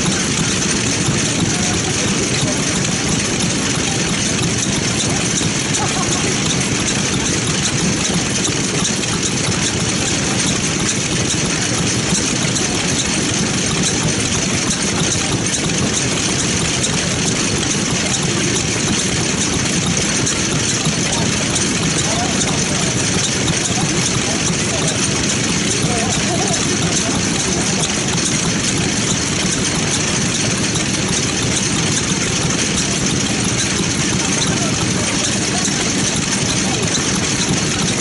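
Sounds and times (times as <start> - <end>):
cultivator engine running: 0.0 - 38.0.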